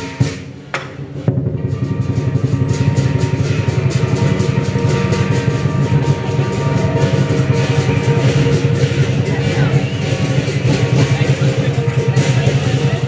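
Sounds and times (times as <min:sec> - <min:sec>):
firecrackers crackling: 0:01.0 - 0:13.0.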